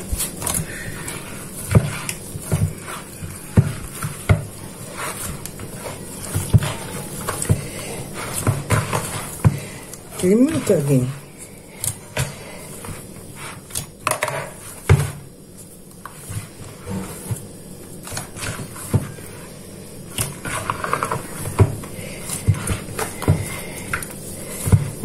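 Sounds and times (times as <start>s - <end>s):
dough kneaded in plastic bowl: 0.0s - 25.0s.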